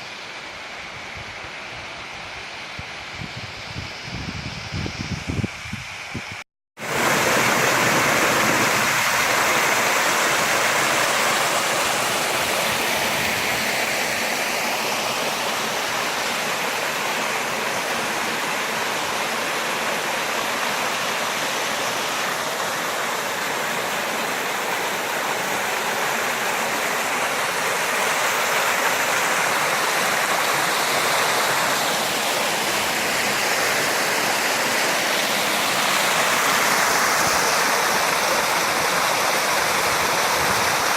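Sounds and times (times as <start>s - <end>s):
flowing water rushing: 0.0s - 2.7s, 6.8s - 40.9s.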